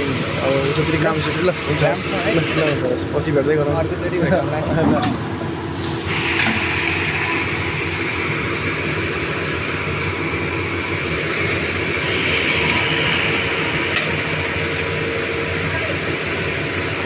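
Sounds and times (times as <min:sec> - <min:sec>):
excavator engine and hydraulics drone: 0:00.0 - 0:17.0
high whine: 0:00.0 - 0:17.0.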